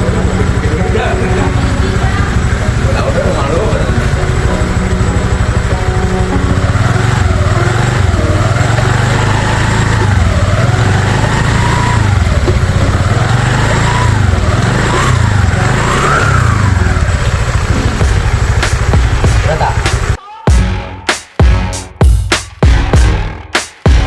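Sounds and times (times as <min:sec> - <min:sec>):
scooter engine revving: 0:00.0 - 0:20.2.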